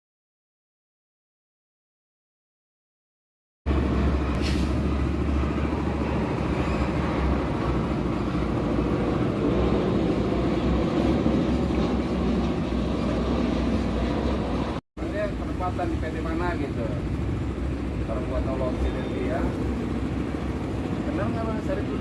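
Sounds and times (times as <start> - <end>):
low vehicle rumble: 3.7 - 22.0.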